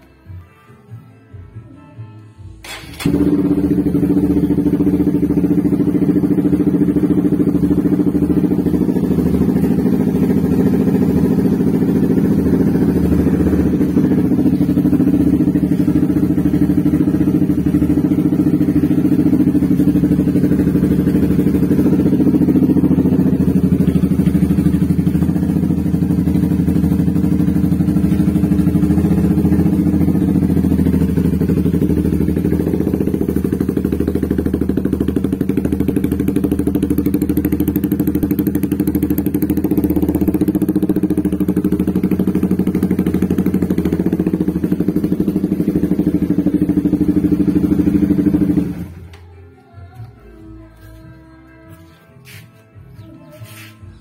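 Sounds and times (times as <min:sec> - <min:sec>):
motorcycle engine idling: 0:02.6 - 0:54.0.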